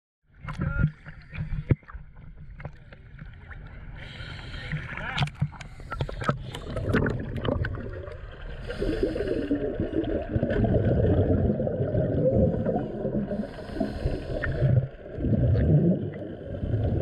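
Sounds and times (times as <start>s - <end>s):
underwater bubbling and gurgling: 0.3s - 17.0s
water splashing: 0.4s - 17.0s.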